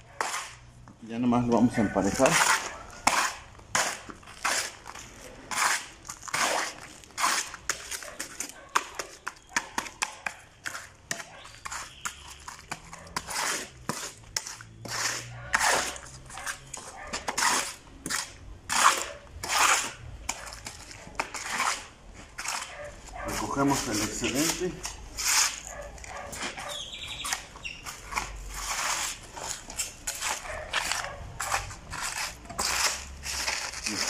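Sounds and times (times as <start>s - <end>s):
shovel scraping wet cement: 0.0s - 34.0s.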